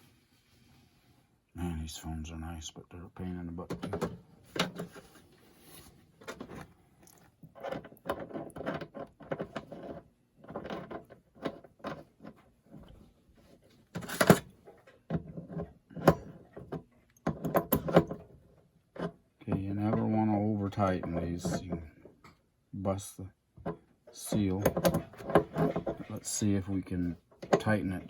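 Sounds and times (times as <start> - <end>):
tools knocking and scraping: 3.6 - 6.7, 7.3 - 22.4, 23.6 - 28.0.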